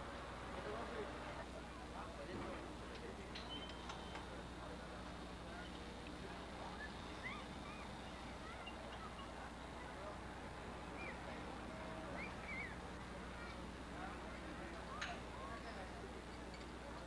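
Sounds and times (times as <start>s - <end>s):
low electrical hum: 0.0s - 17.0s
distant voices: 0.1s - 17.0s.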